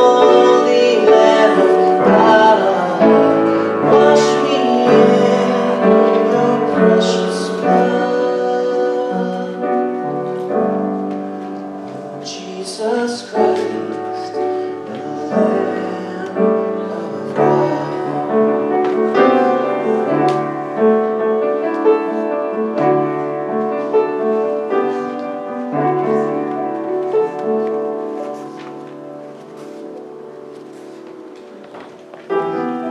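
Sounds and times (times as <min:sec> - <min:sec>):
church music on keyboard: 0:00.0 - 0:32.9.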